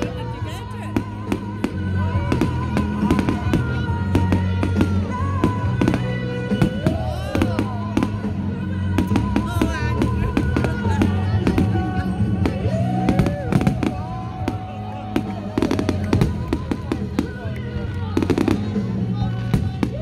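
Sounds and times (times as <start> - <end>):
fireworks banging and crackling: 0.0 - 20.0.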